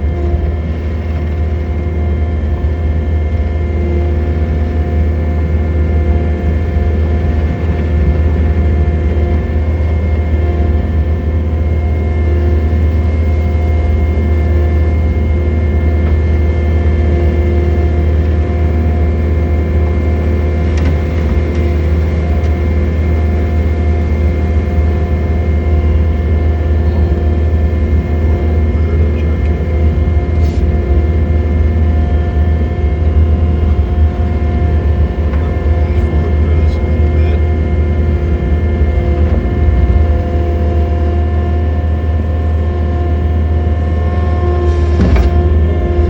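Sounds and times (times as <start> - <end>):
constant whine: 0.0 - 46.0
diesel engine droning: 0.0 - 46.0.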